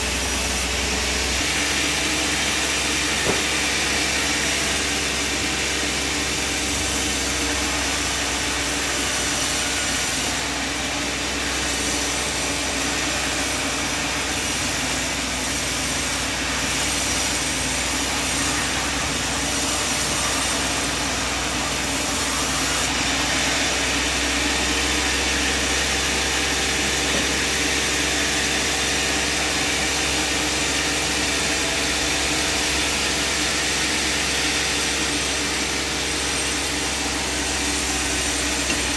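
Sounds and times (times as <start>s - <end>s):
saw hissing: 0.0s - 38.9s
sawmill engine drone: 0.0s - 38.9s.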